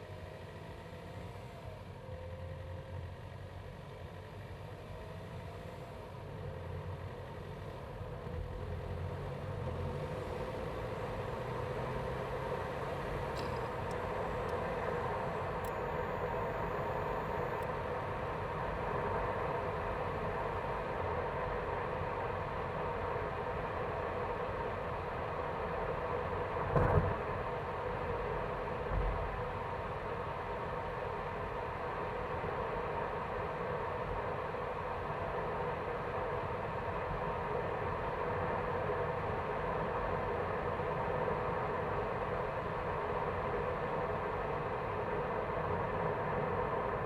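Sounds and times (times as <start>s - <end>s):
car engine running with whine: 0.0s - 47.0s.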